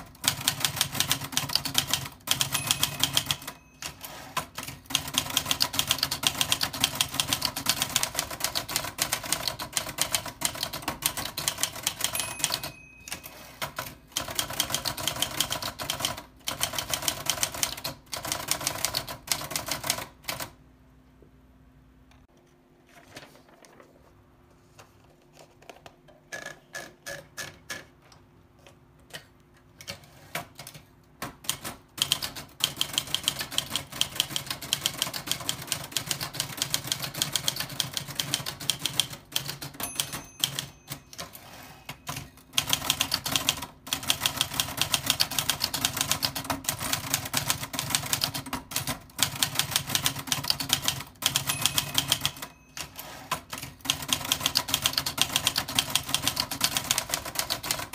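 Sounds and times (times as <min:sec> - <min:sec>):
typewriter typing: 0:00.0 - 0:20.6, 0:29.8 - 0:57.9.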